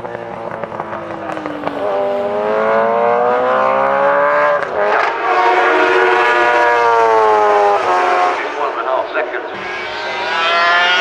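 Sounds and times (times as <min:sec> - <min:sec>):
racing engine at high revs: 0:00.0 - 0:11.0.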